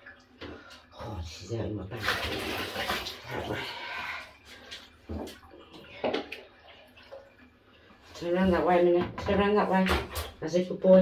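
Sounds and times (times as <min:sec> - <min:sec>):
water splashing in a bathtub: 0:00.0 - 0:11.0.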